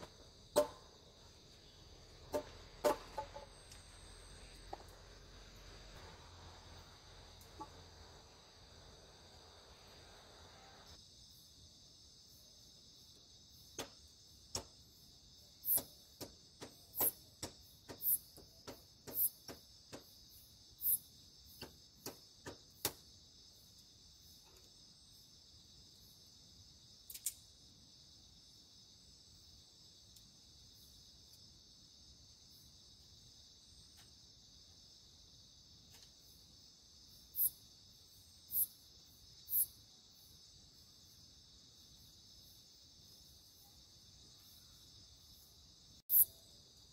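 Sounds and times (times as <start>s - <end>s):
night insects chirring: 0.0s - 46.9s.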